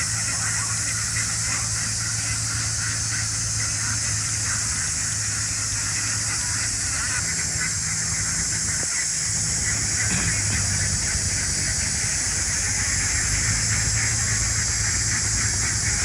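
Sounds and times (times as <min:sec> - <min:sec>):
ducks quacking: 0:00.0 - 0:16.0
low steady hum: 0:00.0 - 0:16.0
steady high hiss: 0:02.5 - 0:16.0.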